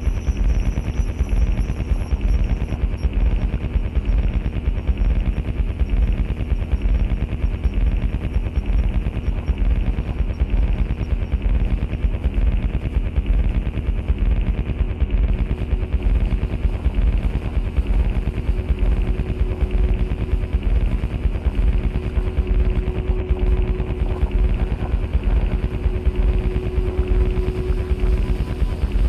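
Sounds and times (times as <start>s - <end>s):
steady droning tone: 0.0s - 29.0s
stuttering electronic crackle: 0.0s - 29.0s.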